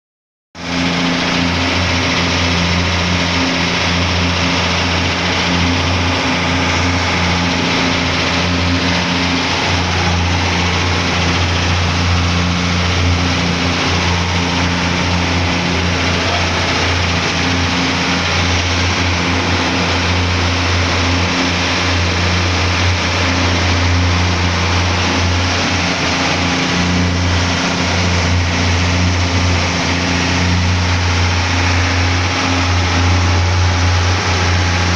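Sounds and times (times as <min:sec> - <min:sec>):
boat engine droning: 0:00.6 - 0:34.9.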